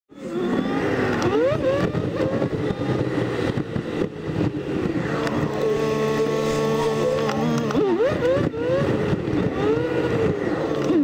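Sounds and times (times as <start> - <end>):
car engine revving sped up: 0.1 - 11.0
road noise inside car: 0.1 - 11.0.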